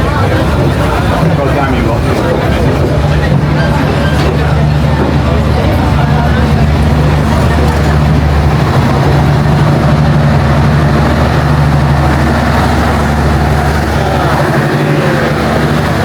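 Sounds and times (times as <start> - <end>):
diesel train engine humming: 0.0 - 16.0.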